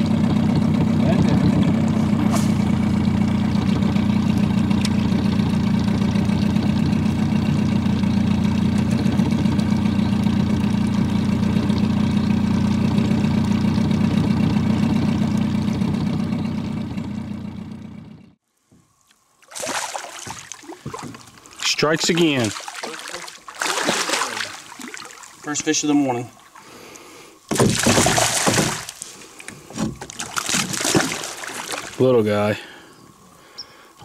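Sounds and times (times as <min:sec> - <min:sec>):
outboard motor running: 0:00.0 - 0:18.4, 0:19.6 - 0:33.2.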